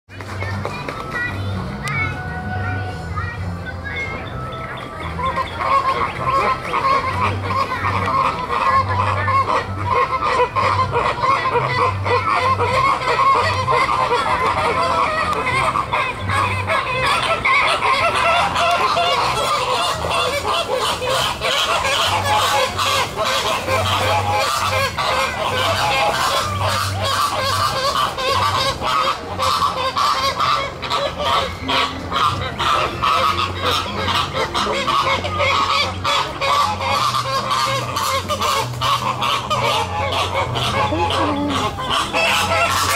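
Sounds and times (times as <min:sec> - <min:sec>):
flock of flamingos honking: 0:00.2 - 0:42.9.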